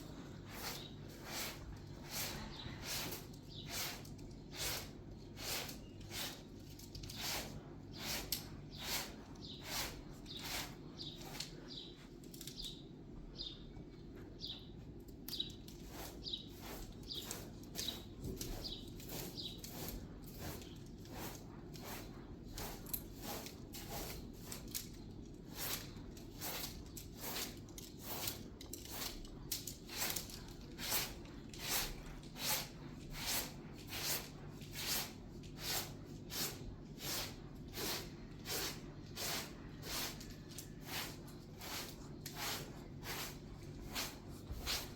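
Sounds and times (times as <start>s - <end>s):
tool scraping wet cement: 0.5s - 11.6s, 15.8s - 44.9s.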